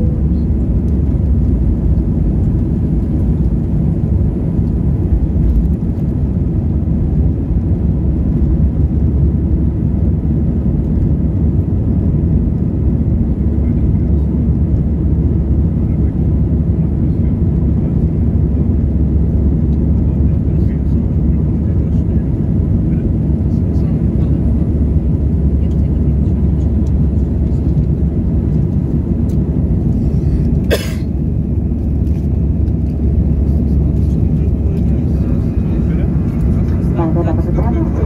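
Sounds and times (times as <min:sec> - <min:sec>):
airplane engines rumbling: 0:00.0 - 0:38.0.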